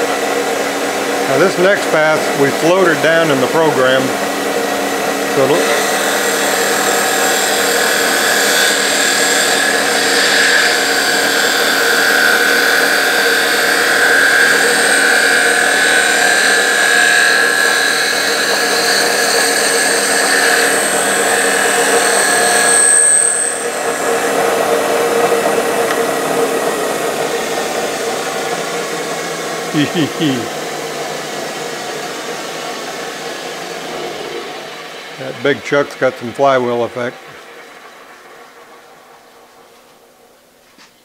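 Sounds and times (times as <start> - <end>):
electric motor humming: 0.0 - 37.8
wavering high whine: 0.0 - 40.7.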